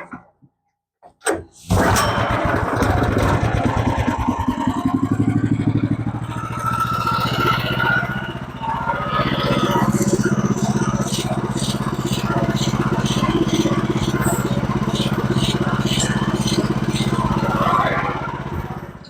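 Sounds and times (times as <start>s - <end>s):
sawmill gasoline engine running: 1.6s - 19.0s.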